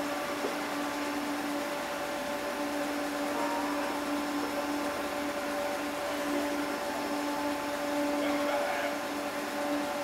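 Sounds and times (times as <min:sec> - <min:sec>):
electric train humming: 0:00.0 - 0:10.0.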